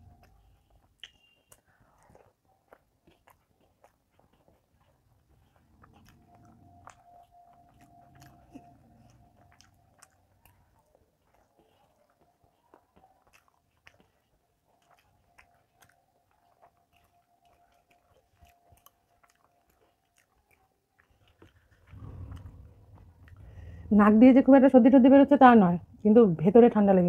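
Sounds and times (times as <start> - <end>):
person chewing: 0.0 - 23.9
faint steady hum: 0.0 - 27.0.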